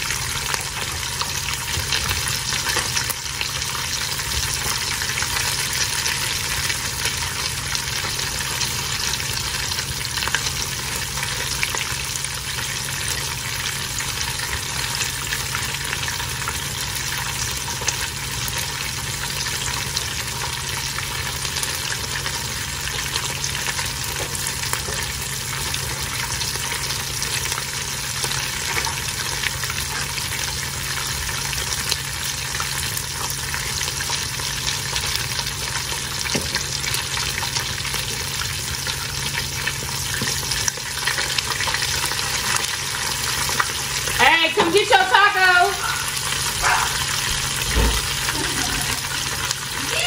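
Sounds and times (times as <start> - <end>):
food sizzling in oil: 0.0 - 50.0.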